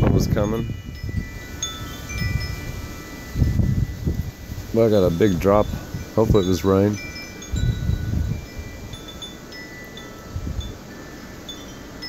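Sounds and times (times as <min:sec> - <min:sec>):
wind rumble on microphone: 0:00.0 - 0:11.7
wind chimes ringing: 0:00.0 - 0:12.0.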